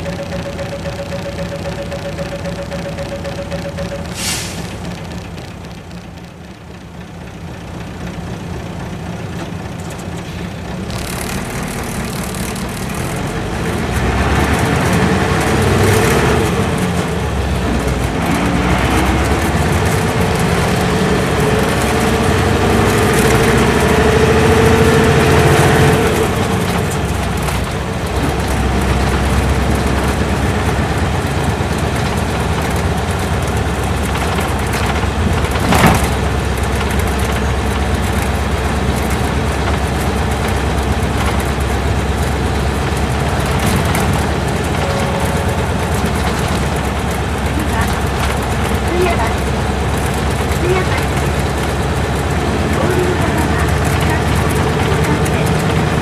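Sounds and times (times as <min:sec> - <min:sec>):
diesel bus engine accelerating: 0:00.0 - 0:56.0.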